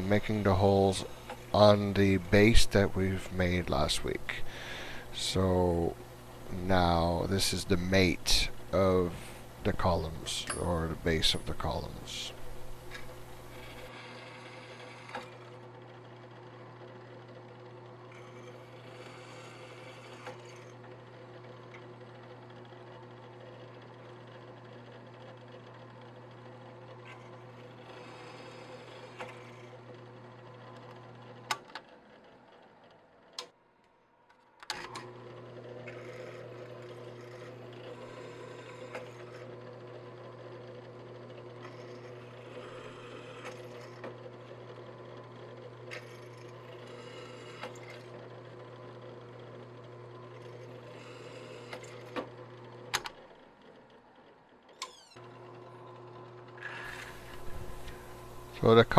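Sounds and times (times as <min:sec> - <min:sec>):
drill press motor hum: 0:00.0 - 0:58.9.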